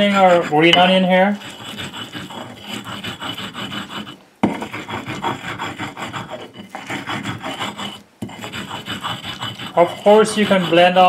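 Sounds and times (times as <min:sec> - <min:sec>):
stone roller grinding on stone: 0:00.0 - 0:11.0.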